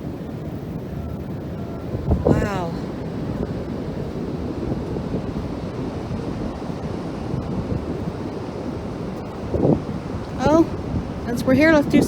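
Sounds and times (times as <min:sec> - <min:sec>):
ocean waves breaking: 0:00.0 - 0:12.0
wind buffeting microphone: 0:00.0 - 0:12.0.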